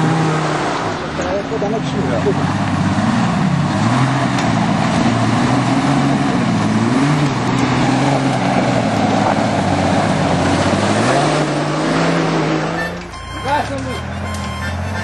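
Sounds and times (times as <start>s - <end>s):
engine working under load: 0.0s - 15.0s.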